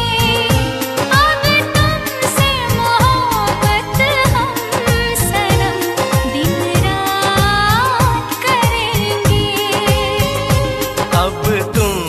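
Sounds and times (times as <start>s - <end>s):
film song with melodic lead: 0.0s - 12.0s
low drum beat: 0.0s - 12.0s.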